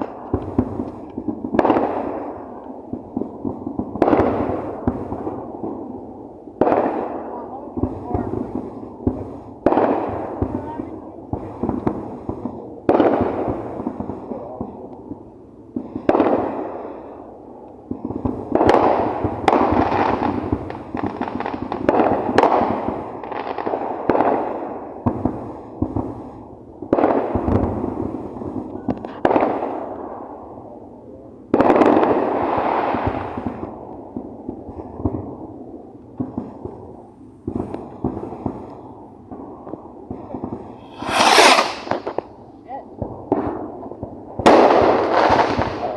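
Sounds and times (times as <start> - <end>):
fireworks bangs echoing: 0.0 - 17.2, 17.8 - 30.4, 31.5 - 45.9
fireworks crackles: 0.0 - 30.9, 31.5 - 45.9.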